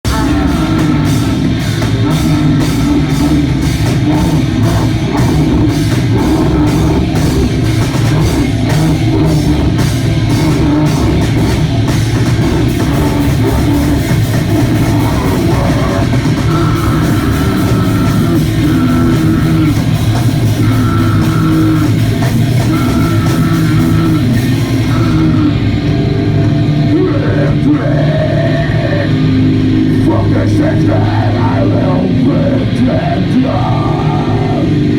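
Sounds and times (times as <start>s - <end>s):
punk band playing: 0.0s - 34.9s.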